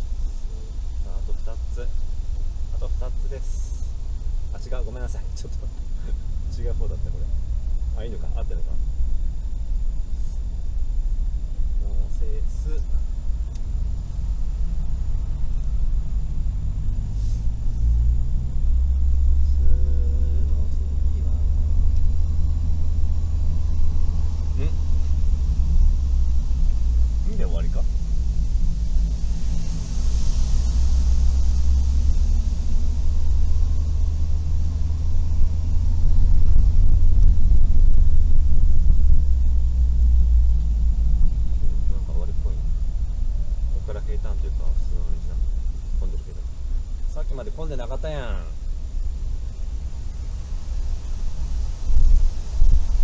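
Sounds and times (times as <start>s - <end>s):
road and tyre noise: 0.0s - 53.0s
van engine humming: 0.0s - 53.0s.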